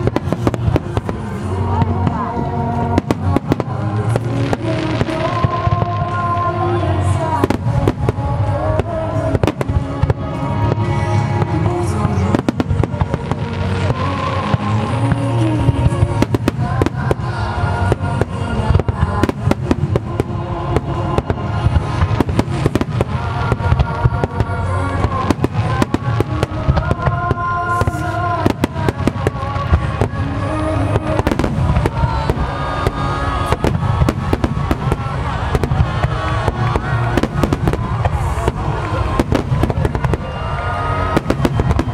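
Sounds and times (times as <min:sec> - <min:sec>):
music playing: 0:00.0 - 0:41.9.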